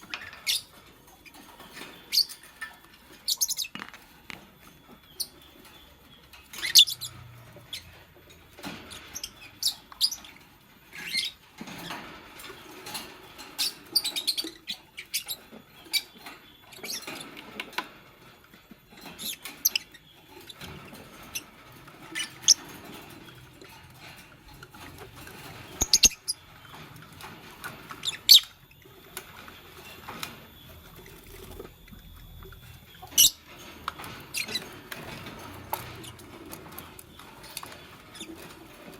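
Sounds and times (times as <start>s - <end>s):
lovebirds chirping: 0.0s - 11.8s, 18.7s - 38.9s
soft scratching and rustling: 0.0s - 38.9s.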